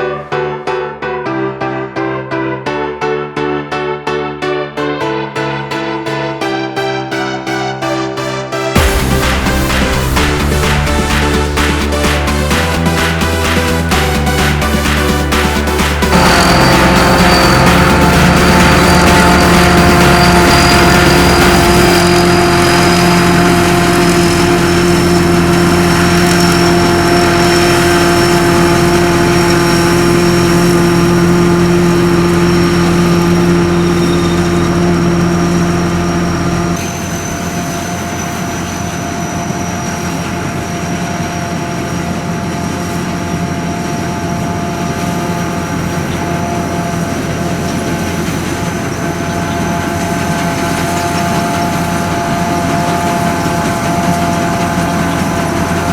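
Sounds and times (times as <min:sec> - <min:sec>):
combine harvester running: 0:08.4 - 0:55.9.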